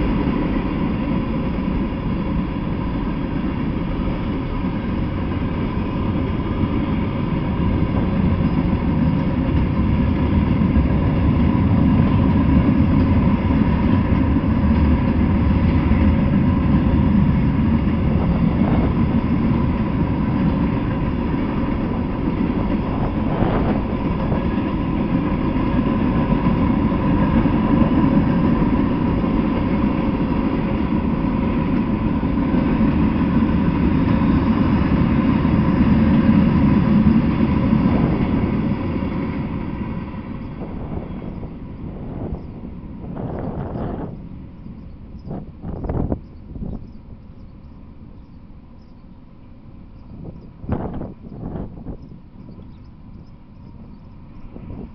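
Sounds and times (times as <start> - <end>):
train cars clanking: 0.0 - 49.2
thin steady whine: 0.0 - 54.9
train wheels rumbling on rail: 0.0 - 54.9.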